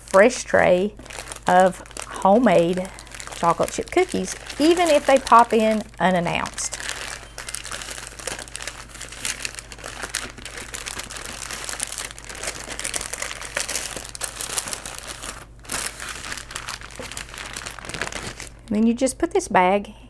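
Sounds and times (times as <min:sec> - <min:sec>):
plastic bag crinkling: 0:00.0 - 0:18.7.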